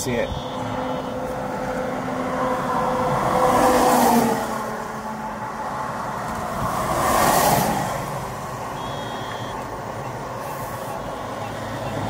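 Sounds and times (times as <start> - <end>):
car passing by: 0.6 - 12.0.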